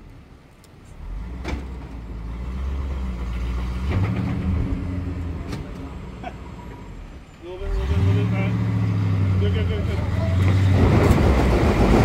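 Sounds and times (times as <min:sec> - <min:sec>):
vehicle engine revving under load: 0:01.0 - 0:12.0.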